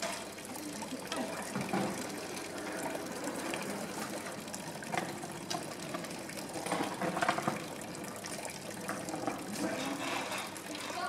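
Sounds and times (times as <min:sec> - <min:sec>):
fountain water splashing into basin: 0:00.0 - 0:11.0.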